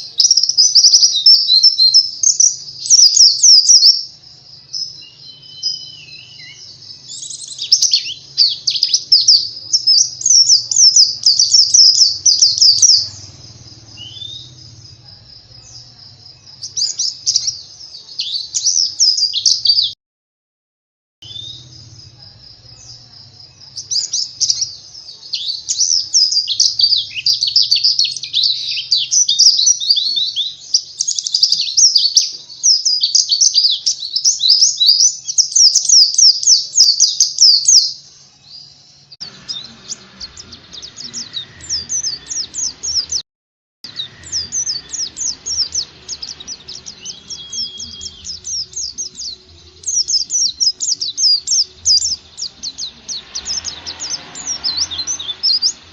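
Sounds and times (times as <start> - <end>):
background noise: 0.0 - 20.0, 21.2 - 43.2, 43.8 - 55.9
bird twittering: 0.0 - 20.0, 23.6 - 43.2, 43.8 - 55.9.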